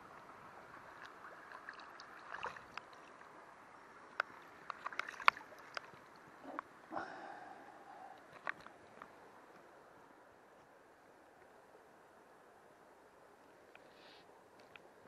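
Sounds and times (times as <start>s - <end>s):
stream running: 0.0s - 15.0s.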